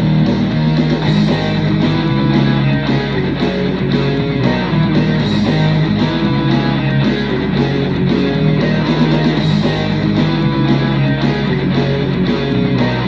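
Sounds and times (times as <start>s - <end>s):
guitar music with steady beat: 0.0s - 13.0s.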